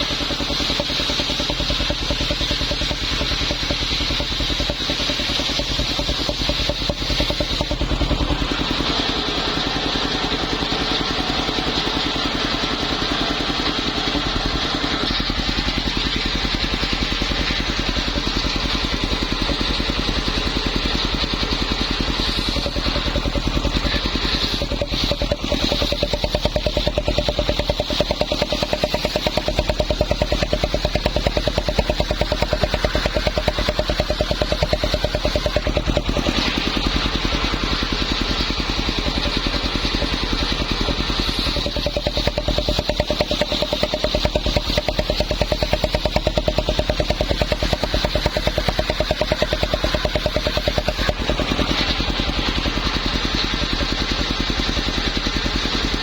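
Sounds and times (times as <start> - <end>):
circular saw running: 0.0 - 56.0.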